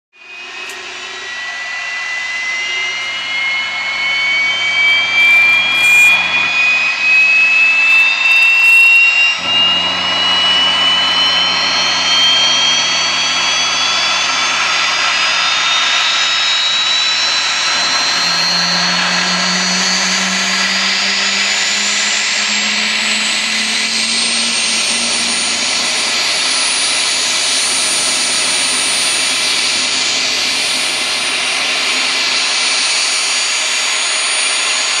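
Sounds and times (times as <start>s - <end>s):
helicopter turbine whine: 0.2s - 35.0s.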